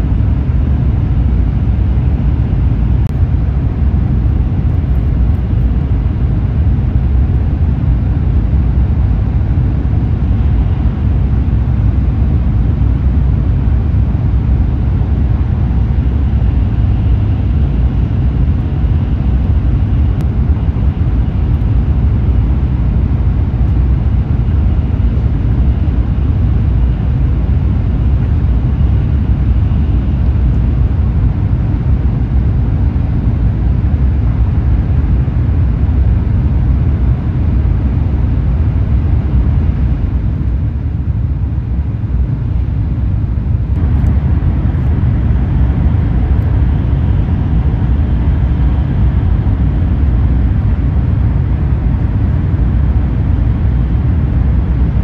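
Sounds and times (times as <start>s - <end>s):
train rumble and hiss from inside: 0.0s - 55.0s.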